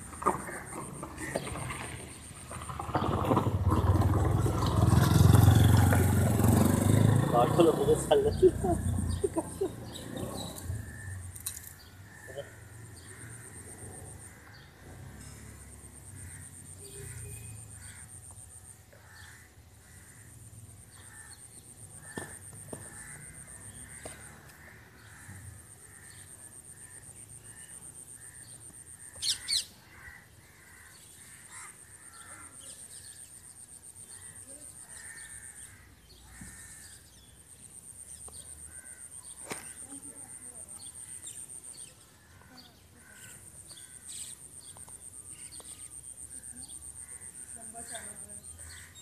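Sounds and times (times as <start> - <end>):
birds calling: 0.0 - 49.0.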